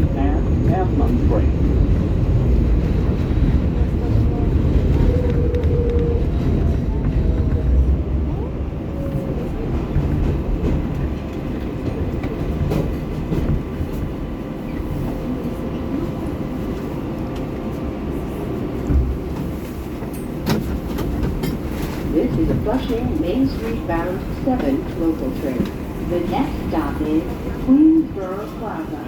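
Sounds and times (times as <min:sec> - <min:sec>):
subway train rumble: 0:00.0 - 0:29.0.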